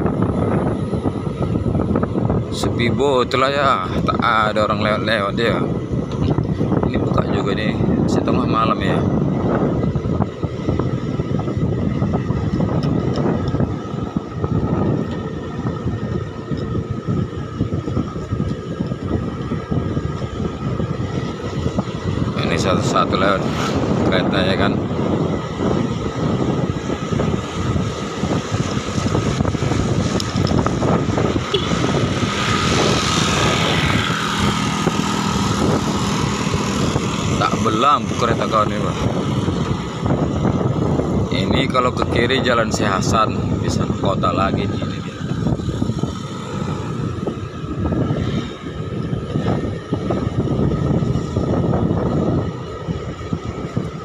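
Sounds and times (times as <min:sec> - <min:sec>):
wind noise on microphone: 0:00.0 - 0:54.0
motorcycle engine running: 0:09.0 - 0:54.0.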